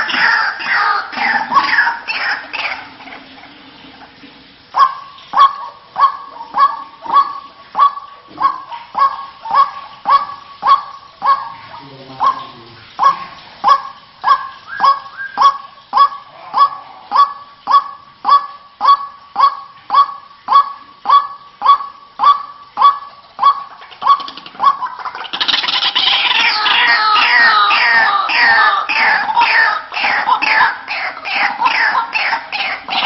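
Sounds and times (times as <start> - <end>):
waterhen harsh honking calls: 0.0 - 33.0.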